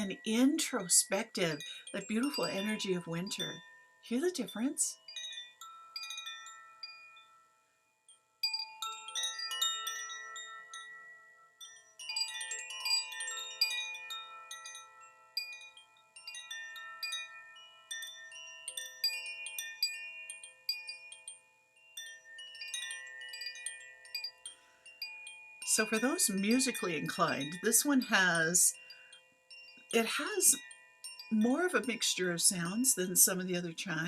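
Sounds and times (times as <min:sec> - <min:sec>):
wind chime ringing: 0:00.0 - 0:34.0.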